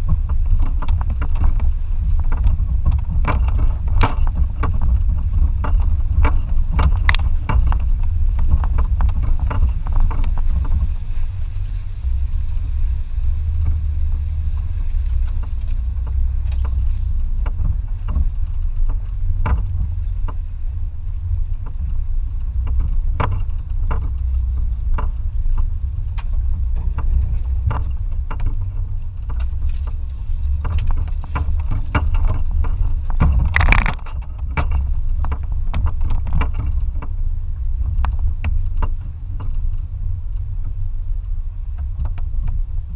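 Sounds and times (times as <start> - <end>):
knocks and rattles: 0.0 - 42.9
pickup truck engine rumble: 0.0 - 42.9.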